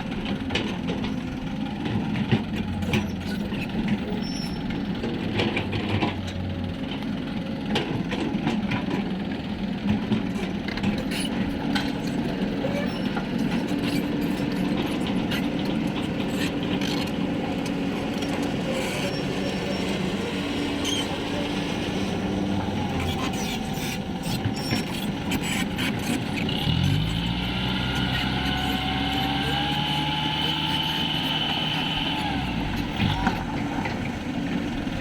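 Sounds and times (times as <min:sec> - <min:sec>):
truck engine running and revving: 0:00.0 - 0:35.0.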